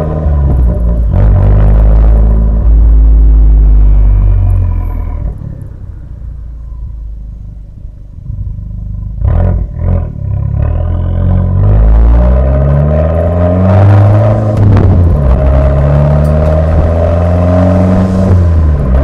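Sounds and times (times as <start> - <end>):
car exhaust accelerating: 0.0 - 19.0.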